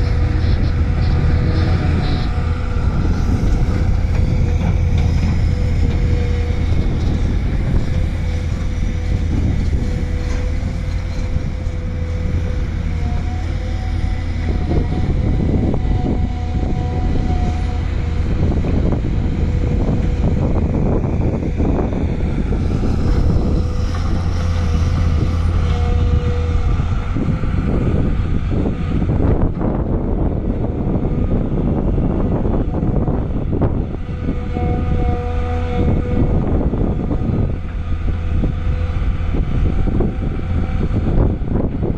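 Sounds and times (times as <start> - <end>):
diesel excavator engine rumbling: 0.0 - 41.9.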